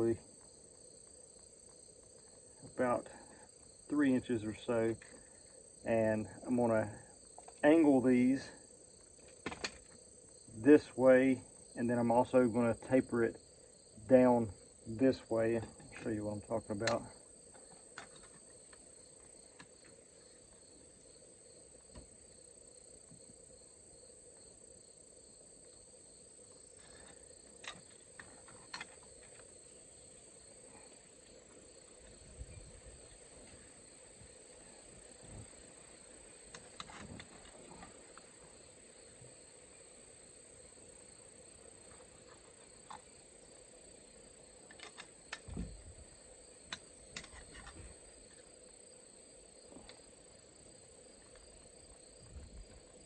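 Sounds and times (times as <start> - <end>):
insect chirring: 0.0 - 53.0.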